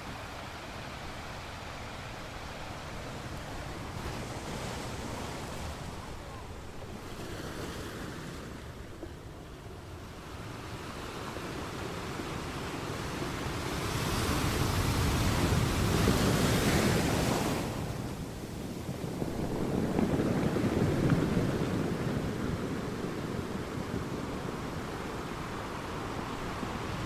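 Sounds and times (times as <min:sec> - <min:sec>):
ocean waves crashing on rocks: 0:00.0 - 0:27.0.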